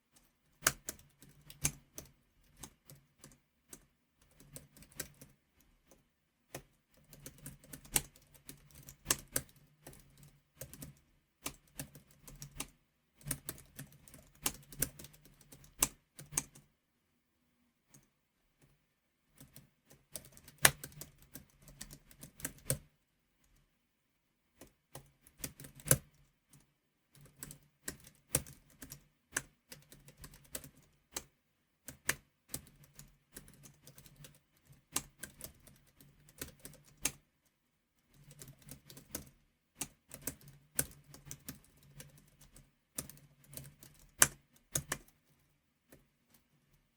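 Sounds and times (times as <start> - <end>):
keyboard typing: 0.2 - 16.7, 19.4 - 23.6, 24.6 - 37.2, 38.0 - 45.2.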